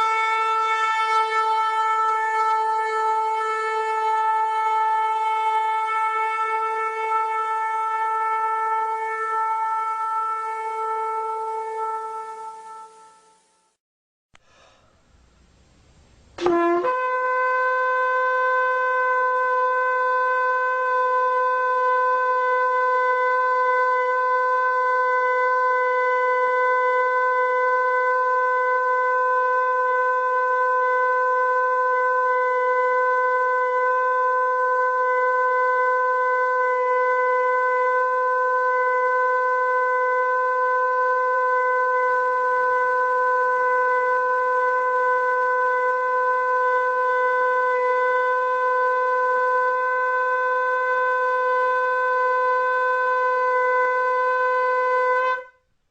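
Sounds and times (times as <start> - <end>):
other horn tones: 0.0 - 13.4, 16.4 - 55.7
ram's horn blast: 0.0 - 13.5, 16.4 - 55.7.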